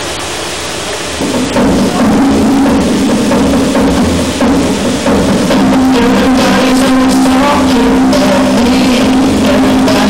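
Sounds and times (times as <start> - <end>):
pop music with drums: 1.2 - 10.0.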